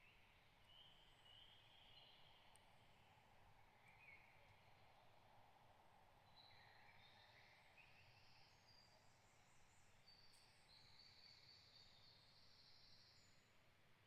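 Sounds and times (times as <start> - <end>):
soft steady hiss: 0.0 - 14.0.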